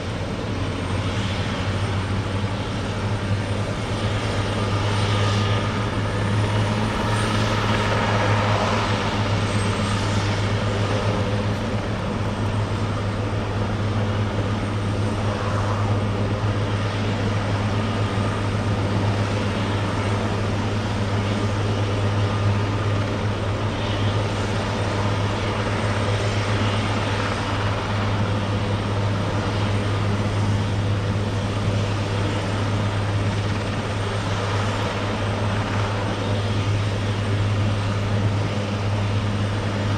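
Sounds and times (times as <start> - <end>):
helicopter rotor and turbine noise: 0.0 - 39.9.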